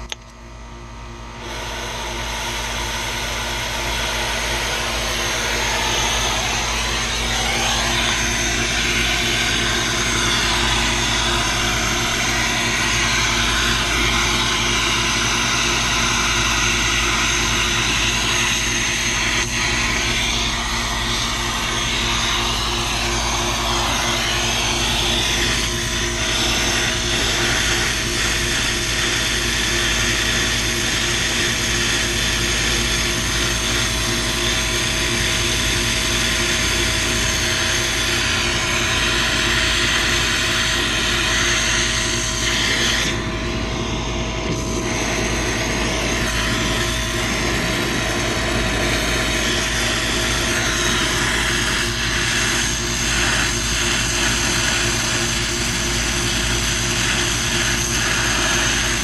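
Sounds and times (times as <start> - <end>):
mechanical drone with hum: 0.0 - 59.0.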